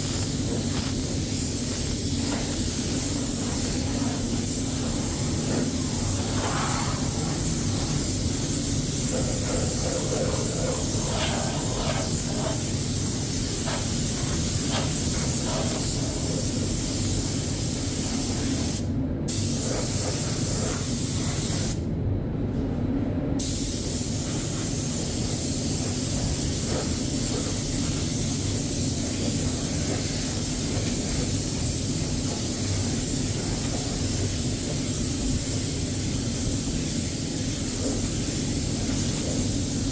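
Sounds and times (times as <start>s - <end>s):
paint spray gun hissing: 0.0s - 21.8s, 23.4s - 39.9s.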